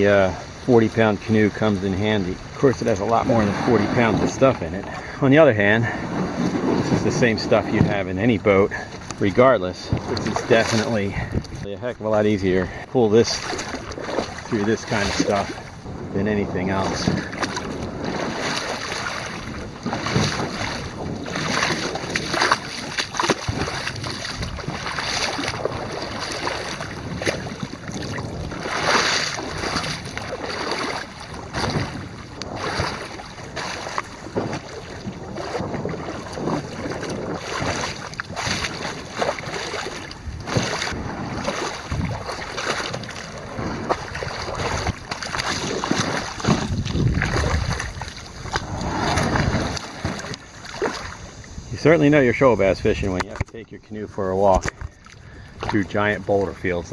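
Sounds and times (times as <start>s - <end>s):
canoe hull knocking and scraping: 0.0s - 56.9s
rushing water: 0.0s - 56.9s
splashes: 0.0s - 56.9s
wind on microphone: 0.0s - 56.9s.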